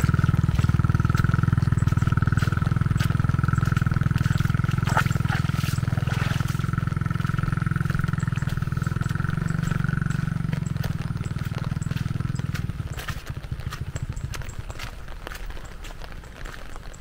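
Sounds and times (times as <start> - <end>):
small engine running: 0.0 - 16.8.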